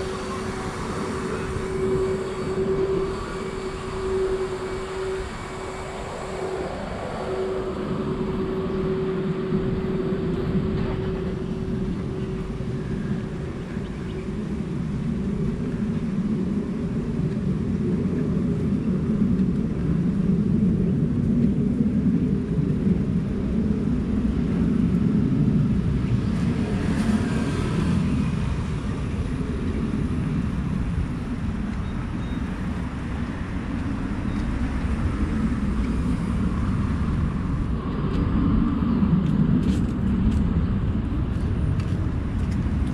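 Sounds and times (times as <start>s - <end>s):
passing cars rumble: 0.0s - 42.9s
steady hum: 0.0s - 42.9s.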